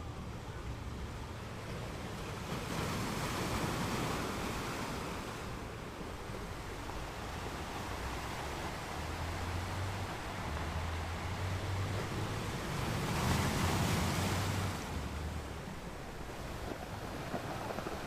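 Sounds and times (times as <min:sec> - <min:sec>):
ocean wave breaking: 0:00.3 - 0:18.0.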